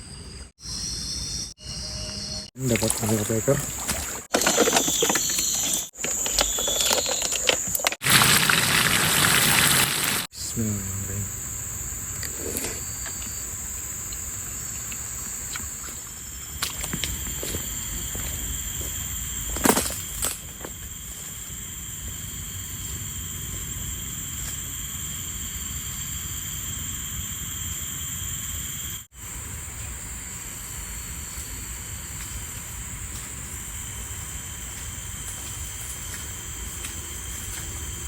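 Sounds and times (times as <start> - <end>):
high insect drone: 0.0 - 38.0.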